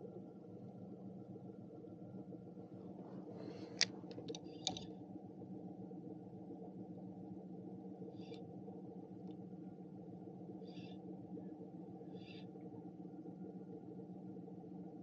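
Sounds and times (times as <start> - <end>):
faint electric motor hum: 0.0 - 15.0.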